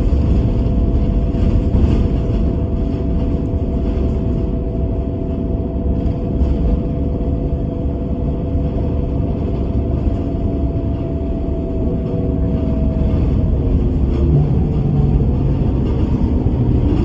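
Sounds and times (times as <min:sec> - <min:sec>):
bus engine low rumble: 0:00.0 - 0:17.0
faint whining tones: 0:02.5 - 0:17.0.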